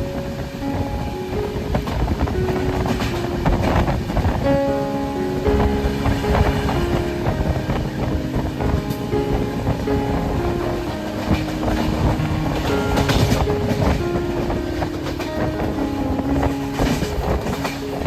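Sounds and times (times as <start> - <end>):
train wheels clattering: 0.0 - 4.4, 5.4 - 18.0
train rumbling on rails: 0.0 - 18.0.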